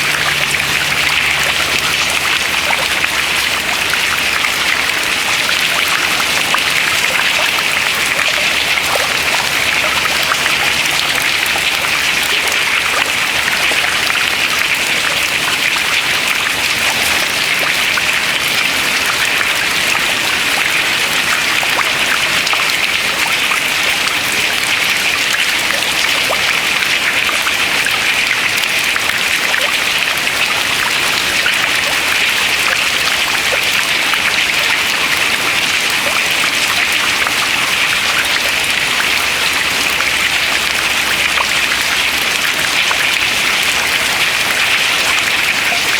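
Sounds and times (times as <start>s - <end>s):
water dripping into water: 0.0s - 45.9s.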